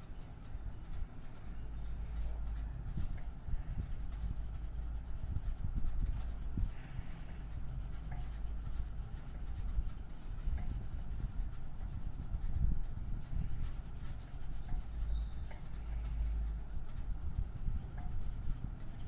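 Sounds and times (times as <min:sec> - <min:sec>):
drawing tool scratching on paper: 0:02.2 - 0:19.0.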